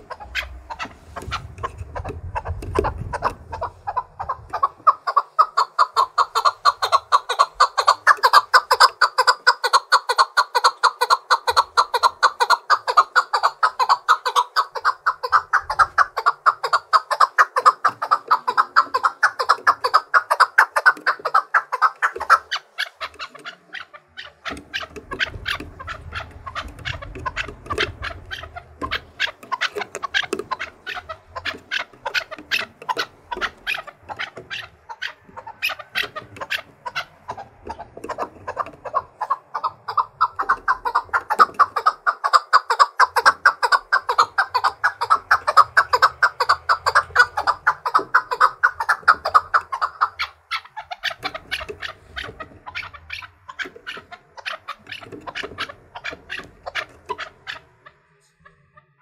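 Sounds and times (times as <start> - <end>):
partridge chuck calls: 0.0 - 59.0.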